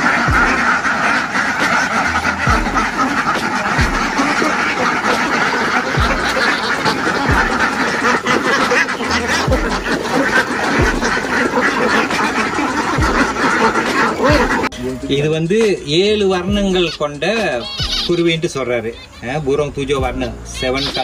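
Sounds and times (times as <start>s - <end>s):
flock of ducks quacking: 0.0s - 21.0s.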